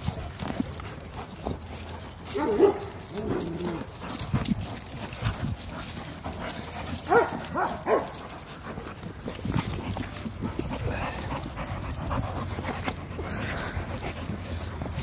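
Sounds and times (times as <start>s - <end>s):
puppies yipping: 0.0s - 15.0s.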